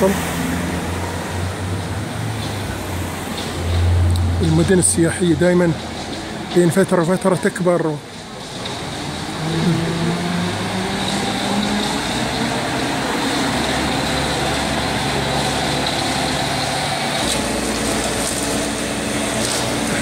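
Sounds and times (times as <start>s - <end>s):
diesel truck engine running: 0.0s - 20.0s
street traffic noise: 0.0s - 20.0s.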